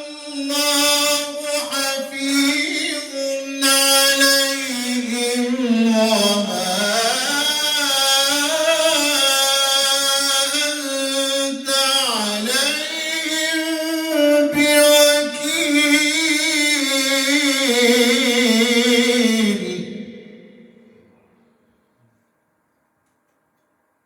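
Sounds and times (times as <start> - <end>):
man chanting melodically: 0.0 - 21.6.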